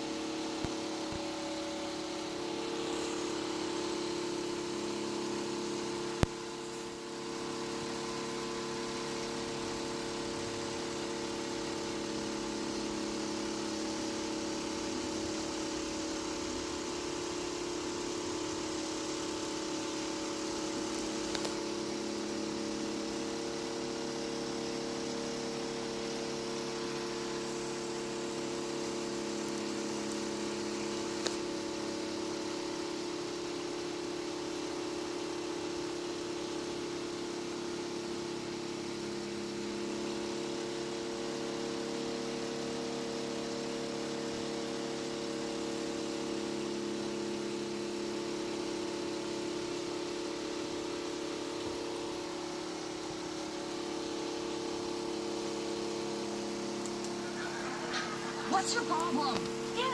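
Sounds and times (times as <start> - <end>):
mechanical hum: 0.0 - 59.9.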